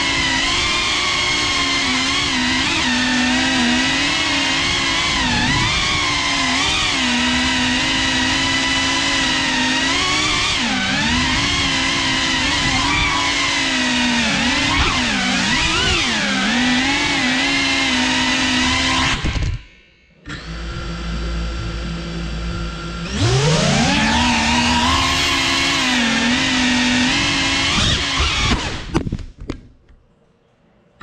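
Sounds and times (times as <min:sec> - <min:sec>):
drone propellers whining: 0:00.0 - 0:19.7, 0:20.3 - 0:28.9.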